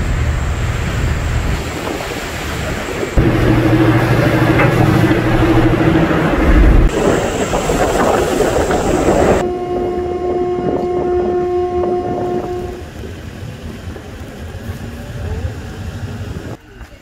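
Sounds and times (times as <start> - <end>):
water rushing: 0.0 - 15.9
ship engine humming: 0.0 - 16.6
wind: 0.0 - 17.0.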